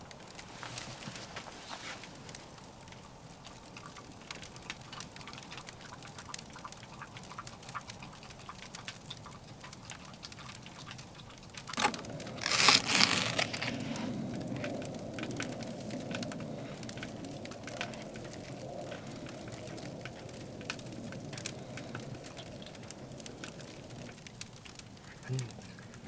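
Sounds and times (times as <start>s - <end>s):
firewood crackling in a stove: 0.0s - 26.0s.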